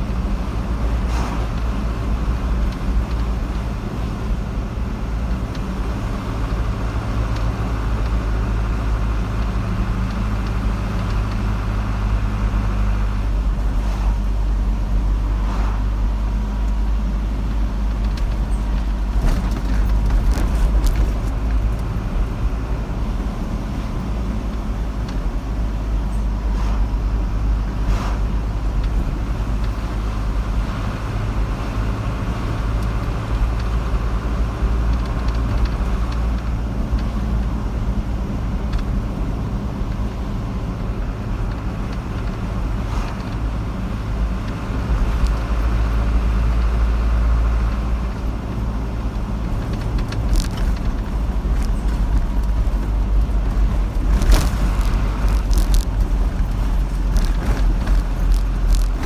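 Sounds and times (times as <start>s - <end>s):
car driving road noise: 0.0s - 59.0s.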